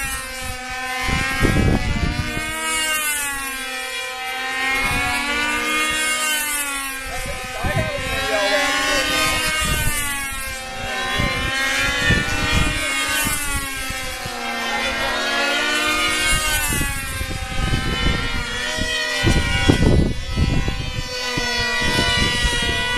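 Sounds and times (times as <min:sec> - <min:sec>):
model airplane engine whining: 0:00.0 - 0:22.9
wind on microphone: 0:00.0 - 0:22.9.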